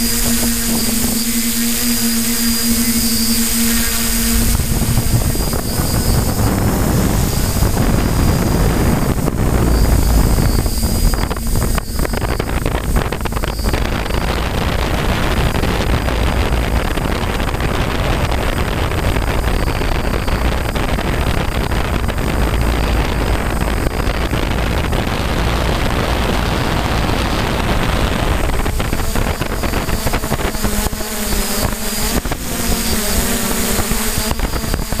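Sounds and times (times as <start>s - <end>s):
drone motors humming: 0.0s - 35.0s
wind rushing over microphone: 0.0s - 35.0s.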